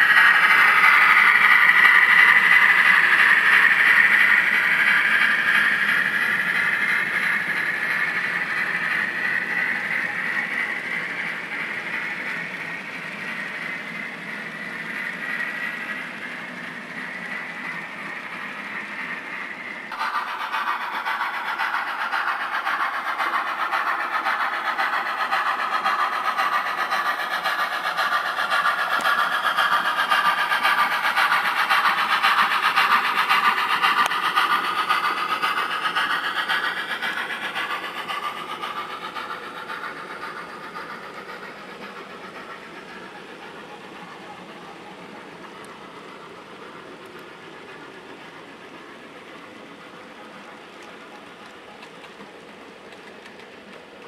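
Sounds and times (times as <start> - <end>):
model steam train running past: 0.0 - 54.0.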